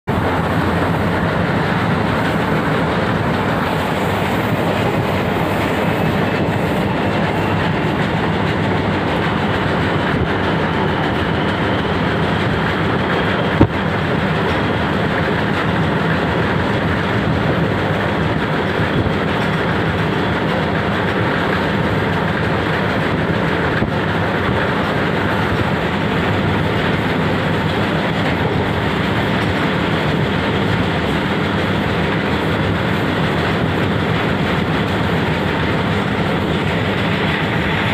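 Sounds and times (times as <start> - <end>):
train wheels rolling on rails: 0.1 - 37.9.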